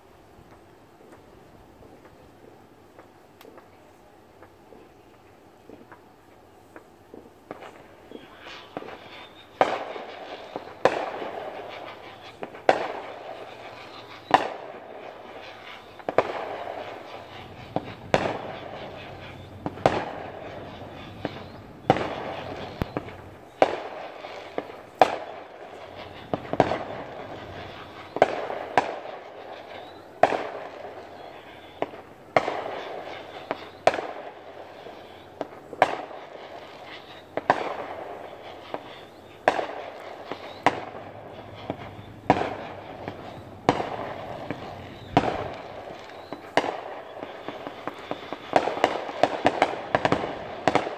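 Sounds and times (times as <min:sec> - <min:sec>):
fireworks bangs: 0:06.7 - 0:50.9.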